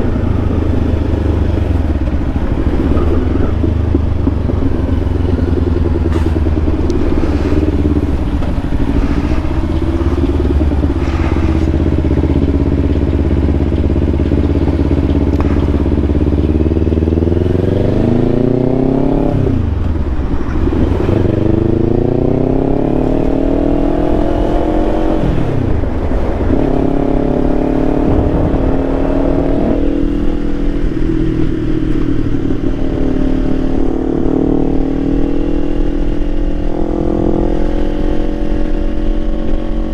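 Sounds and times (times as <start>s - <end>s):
heavy low rumble: 0.0s - 39.9s
motorcycle engine shifting gears: 0.0s - 39.9s.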